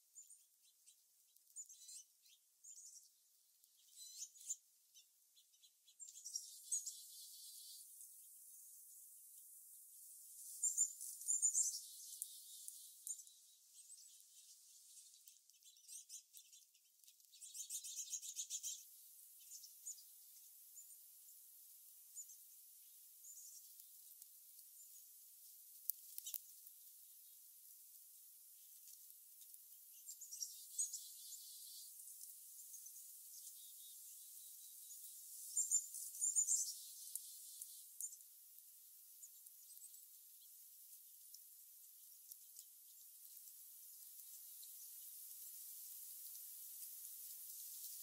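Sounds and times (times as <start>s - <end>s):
songbirds chirping and twittering: 0.0s - 48.0s
faint hiss: 6.0s - 16.3s, 17.0s - 48.0s.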